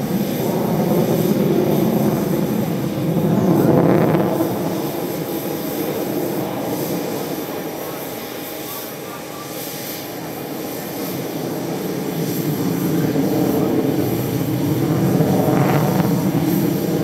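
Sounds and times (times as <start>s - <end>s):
loud rough jet rumble: 0.0s - 17.0s.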